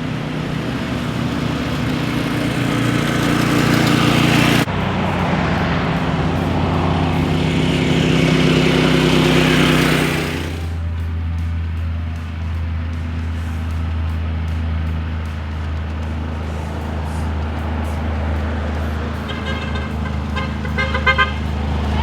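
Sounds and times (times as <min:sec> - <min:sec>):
mini bike engine revving: 0:00.0 - 0:11.0, 0:13.3 - 0:22.0.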